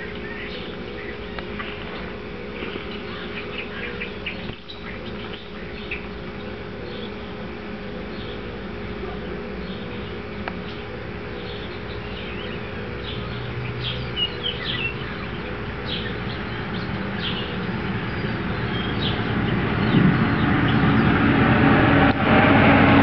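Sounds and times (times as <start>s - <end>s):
small birds chirping: 0.0s - 21.4s.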